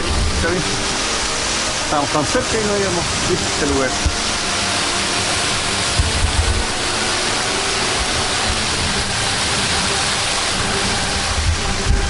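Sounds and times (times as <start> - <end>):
waterfall splashing onto rocks: 0.0 - 12.0.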